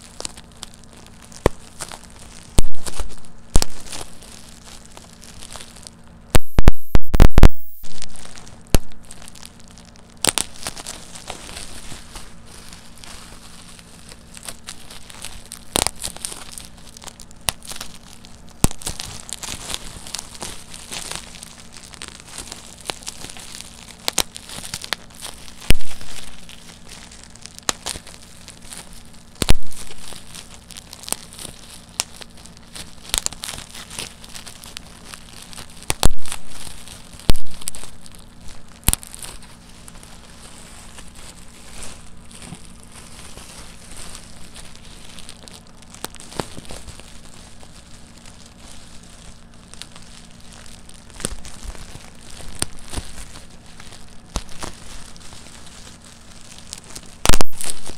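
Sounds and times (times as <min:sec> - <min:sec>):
bubble wrap crinkling: 0:00.0 - 0:57.9
bubble wrap popping: 0:00.0 - 0:57.9.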